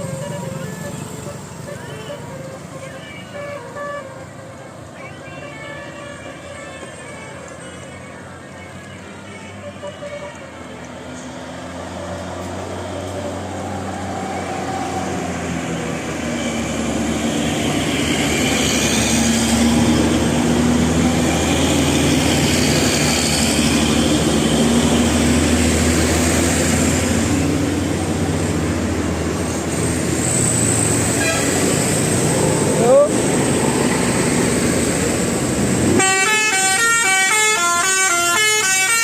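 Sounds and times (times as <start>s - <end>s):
bus engine passing: 0.0s - 39.0s
bus tyres on road: 0.0s - 39.0s.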